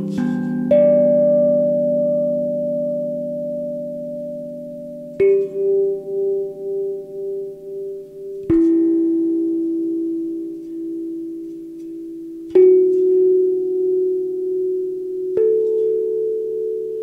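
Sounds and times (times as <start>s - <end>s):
steel tongue drum notes: 0.0s - 17.0s.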